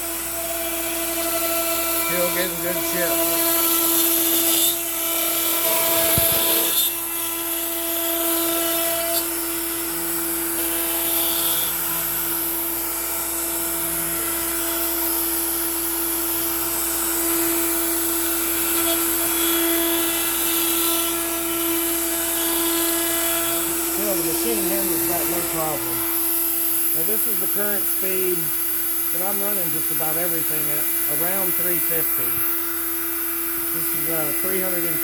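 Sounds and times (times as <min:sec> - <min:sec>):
router whining while cutting wood: 0:00.0 - 0:35.0.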